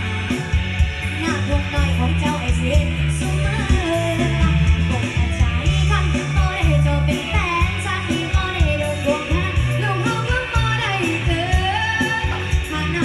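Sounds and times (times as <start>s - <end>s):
song with bass over loudspeaker: 0.0s - 13.0s.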